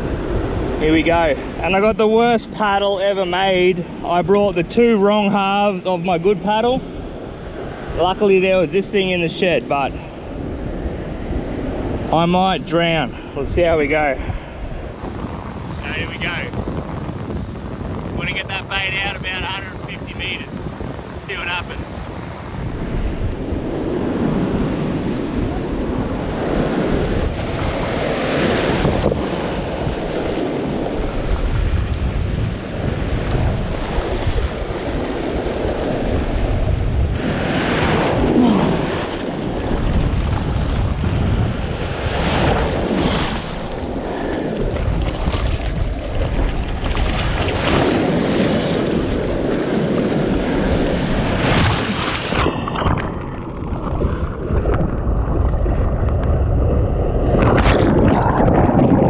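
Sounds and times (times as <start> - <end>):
wind buffeting microphone: 0.0 - 2.7, 6.3 - 59.0
breaking surf and whitewater: 0.0 - 59.0.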